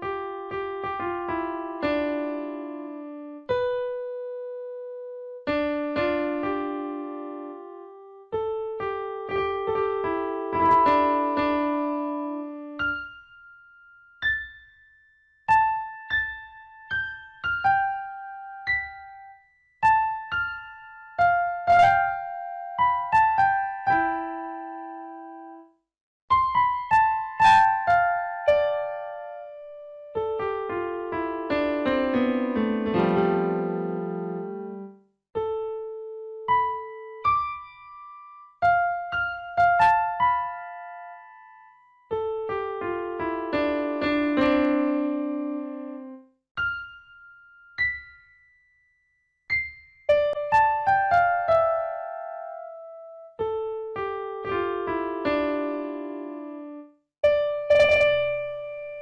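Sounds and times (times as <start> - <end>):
piano music: 0.0 - 48.9, 49.5 - 59.0.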